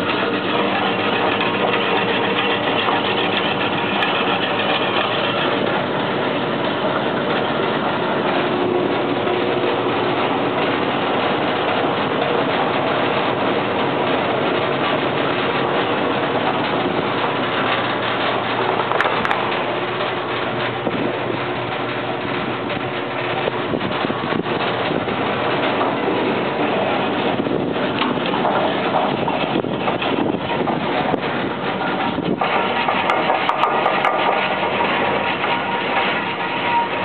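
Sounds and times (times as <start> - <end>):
bandsaw running: 0.0 - 37.0.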